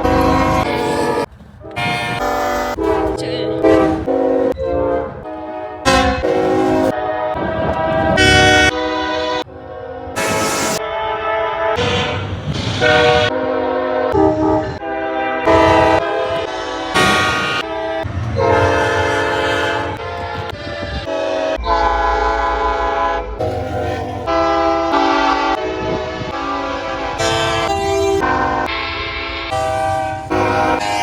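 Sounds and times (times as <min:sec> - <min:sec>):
train air horn chords: 0:00.0 - 0:31.0.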